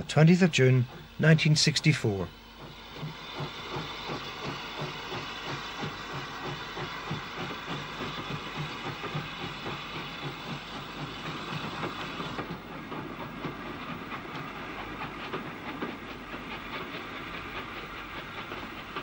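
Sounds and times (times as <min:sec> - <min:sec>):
steam engine exhaust beating: 0:00.0 - 0:19.0
train wheels clickety-clack: 0:00.0 - 0:19.0.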